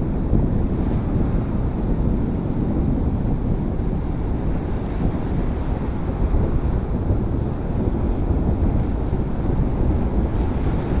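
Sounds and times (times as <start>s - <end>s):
ocean waves washing ashore: 0.0s - 11.0s
wind buffeting microphone: 0.0s - 11.0s.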